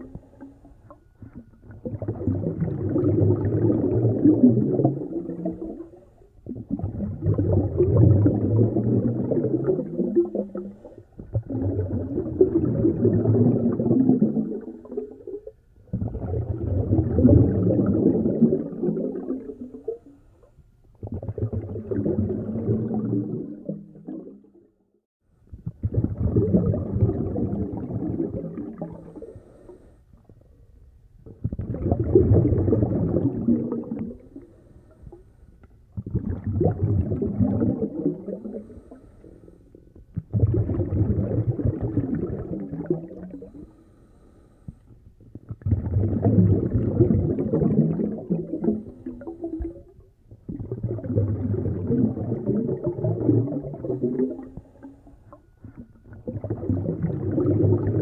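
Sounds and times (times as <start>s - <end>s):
underwater air bubbles gurgling: 0.0s - 24.7s, 25.6s - 30.3s, 31.2s - 35.2s, 35.8s - 44.6s, 45.2s - 58.0s.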